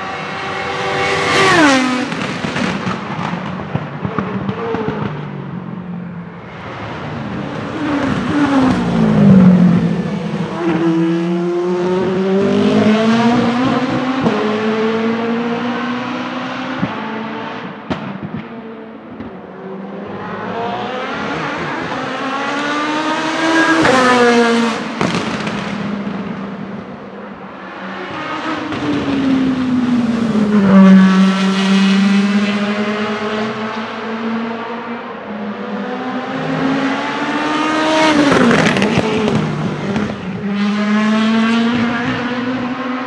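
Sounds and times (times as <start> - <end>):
race car engine accelerating past: 0.0 - 3.4, 6.5 - 17.7, 19.6 - 26.4, 27.7 - 43.0.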